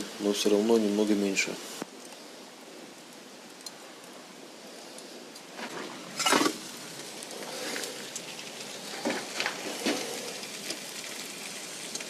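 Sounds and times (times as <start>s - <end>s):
loud crack of fire: 0.0s - 12.0s
wood fire crackling and hissing: 0.0s - 12.0s.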